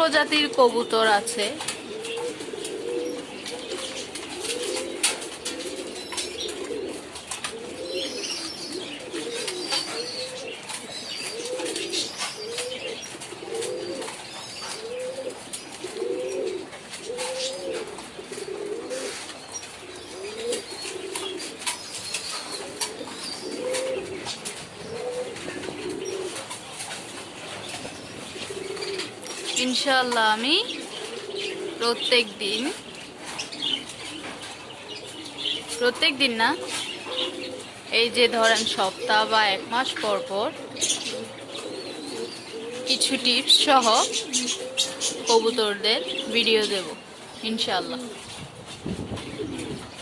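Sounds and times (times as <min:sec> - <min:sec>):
pigeons cooing: 0:00.0 - 0:50.0.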